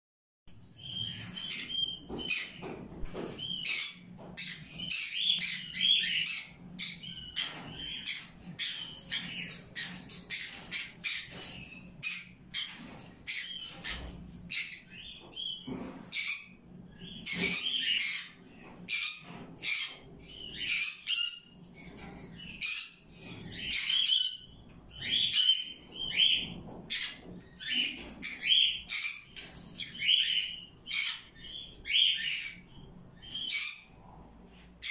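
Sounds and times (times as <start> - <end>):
parrots squawking and chirping: 3.4 - 33.9.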